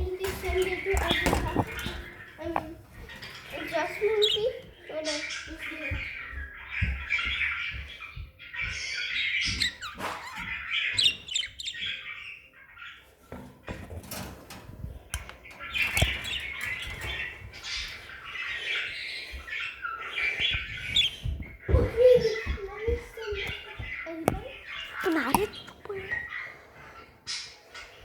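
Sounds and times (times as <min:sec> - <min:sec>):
budgerigars chattering: 0:00.1 - 0:14.1, 0:14.9 - 0:28.0.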